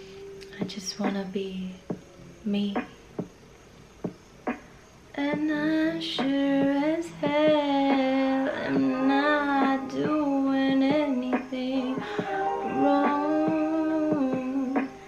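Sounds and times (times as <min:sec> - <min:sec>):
woman singing: 0:00.4 - 0:02.9, 0:05.2 - 0:15.0.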